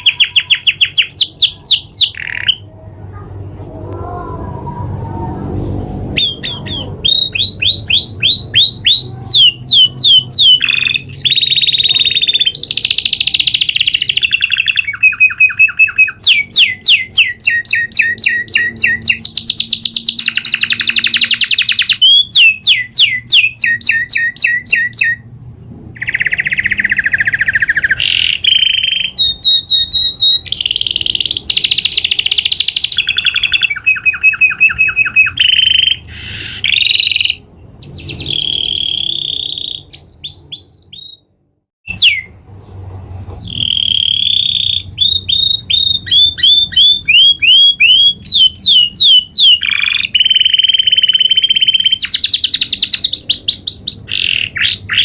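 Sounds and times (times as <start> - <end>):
canary singing trills: 0.0 - 3.6, 5.6 - 25.3, 26.0 - 41.3, 41.9 - 42.8, 43.4 - 55.0.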